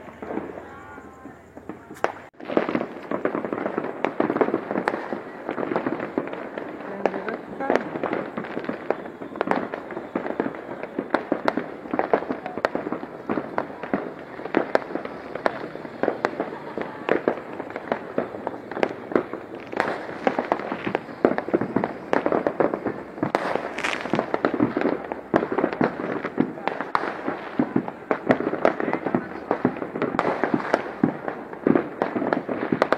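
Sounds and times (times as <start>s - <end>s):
fireworks and firecrackers banging: 0.0s - 32.9s.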